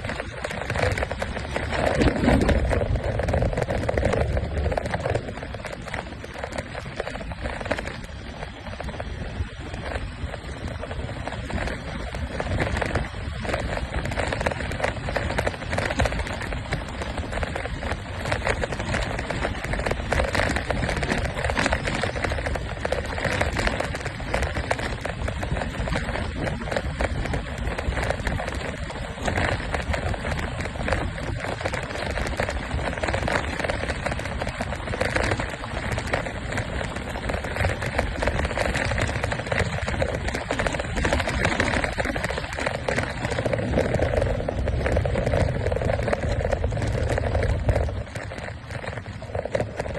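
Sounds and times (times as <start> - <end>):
crackling and rattling: 0.0 - 49.9
wind on microphone: 0.0 - 49.9.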